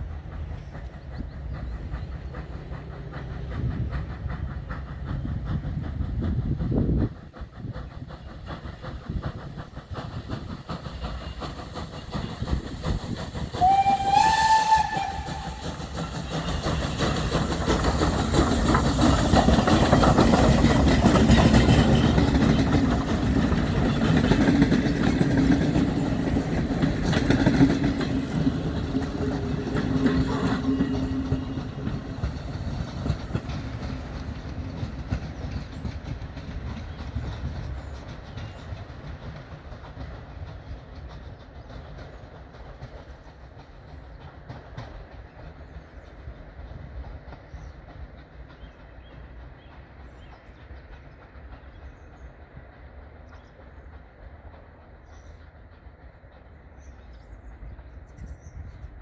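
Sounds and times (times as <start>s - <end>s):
steam locomotive: 0.0s - 59.0s
train coaches over rail joints: 0.0s - 59.0s.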